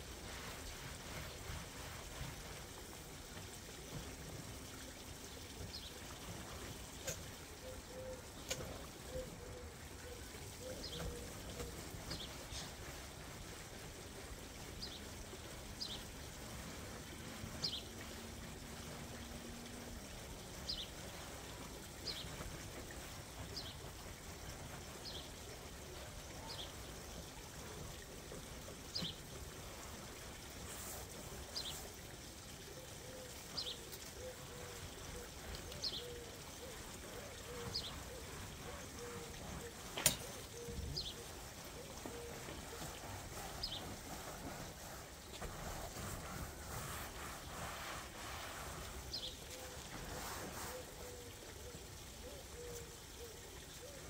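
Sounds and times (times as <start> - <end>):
brush scrubbing in water: 0.0 - 4.6, 10.5 - 32.6, 33.3 - 51.1.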